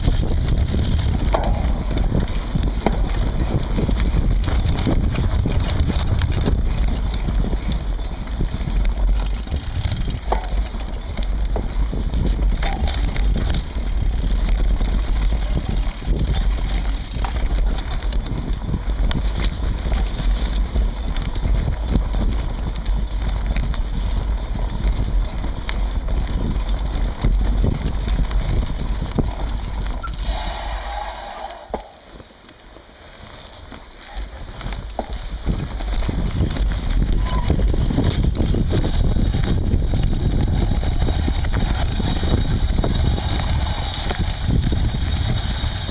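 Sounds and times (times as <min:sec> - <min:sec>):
bike rattles and knocks: 0:00.0 - 0:30.8, 0:31.6 - 0:45.9
mountain bike rumble on trail: 0:00.0 - 0:45.9.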